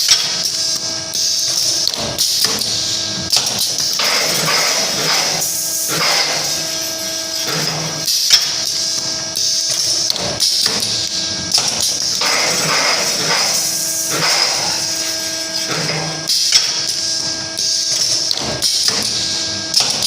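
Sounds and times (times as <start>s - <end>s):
machine hiss: 0.0s - 20.0s
machine hum: 0.0s - 20.0s.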